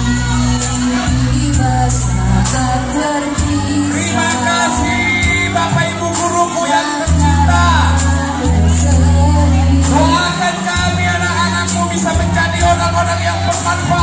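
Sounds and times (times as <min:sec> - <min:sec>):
pop song with singing: 0:00.0 - 0:14.0.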